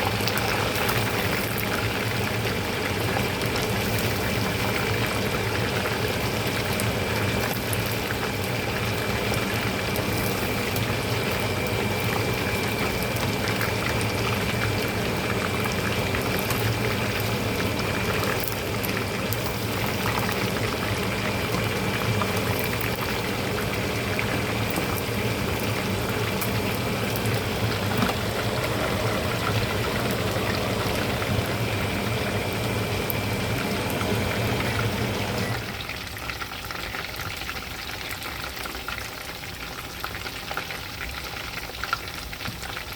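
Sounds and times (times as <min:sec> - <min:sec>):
oil sizzling and crackling: 0:00.0 - 0:42.9.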